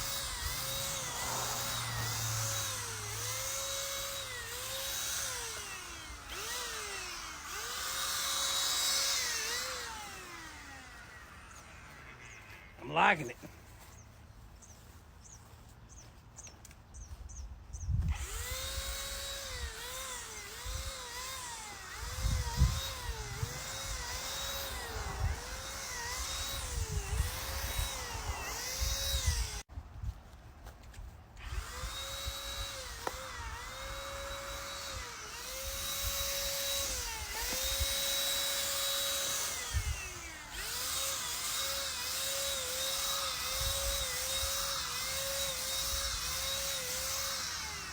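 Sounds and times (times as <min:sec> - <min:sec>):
paint sprayer motor whine: 0:00.0 - 0:14.0, 0:17.9 - 0:29.7, 0:31.4 - 0:47.9.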